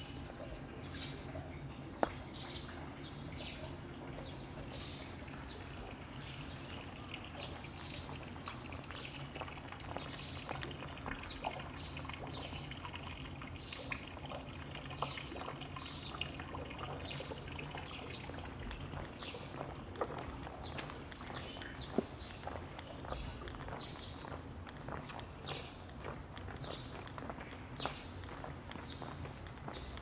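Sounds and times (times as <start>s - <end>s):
water trickling and splashing: 0.0s - 30.0s.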